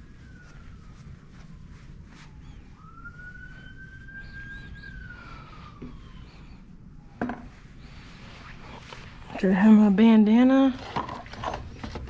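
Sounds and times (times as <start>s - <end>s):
faint siren wailing: 0.0s - 10.7s.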